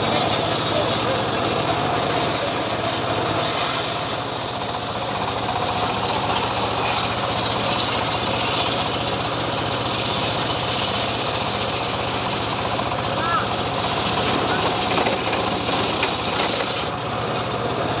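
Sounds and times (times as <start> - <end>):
engine-driven sawmill sawing wood: 0.0 - 18.0.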